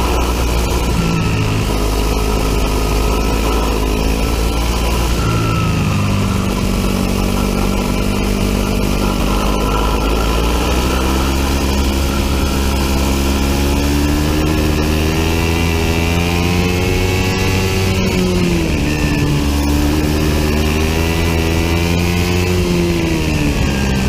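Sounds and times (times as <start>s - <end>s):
kart engine revving: 0.0s - 24.0s.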